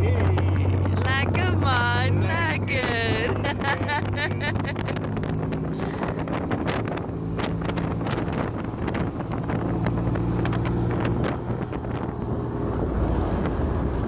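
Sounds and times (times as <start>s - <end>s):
car engine running: 0.0s - 14.0s
wind buffeting microphone: 0.0s - 14.0s.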